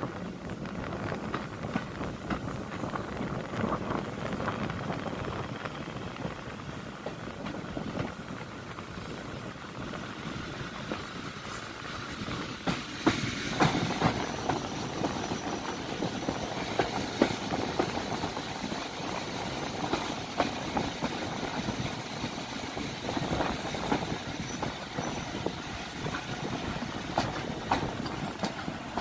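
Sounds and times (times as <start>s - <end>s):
train running rumble: 0.0s - 29.0s
train wheels clattering on rails: 0.0s - 29.0s.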